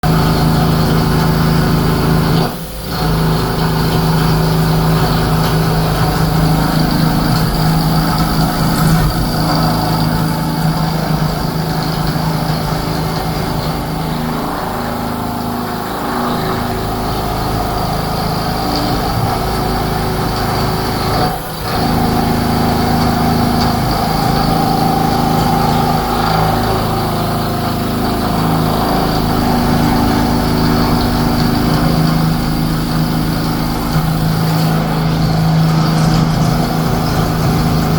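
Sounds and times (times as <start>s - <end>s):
machine hum: 0.0s - 37.9s.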